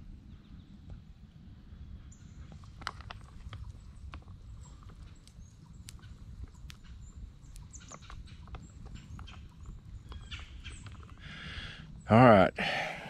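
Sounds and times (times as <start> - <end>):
campfire crackling and popping: 0.0 - 13.0
low steady rumble: 0.0 - 13.0.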